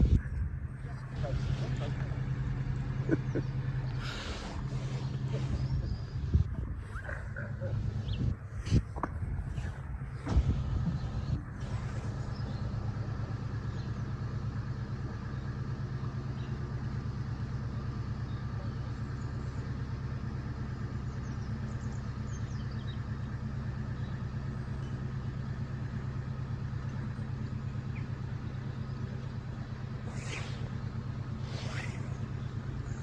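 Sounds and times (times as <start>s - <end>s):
boat engine idling chug: 0.0s - 33.0s.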